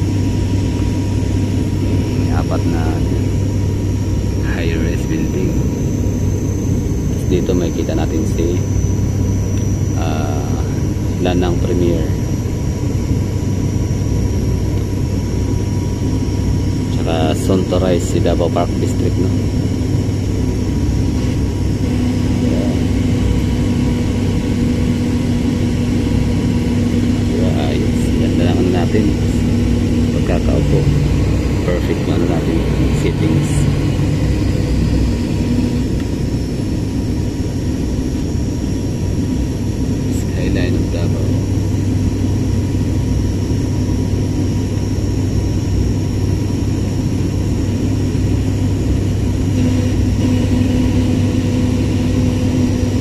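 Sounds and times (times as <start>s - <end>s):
airliner cabin engine drone: 0.0s - 53.0s
continuous low hum: 0.0s - 53.0s
faint steady whine: 0.0s - 53.0s.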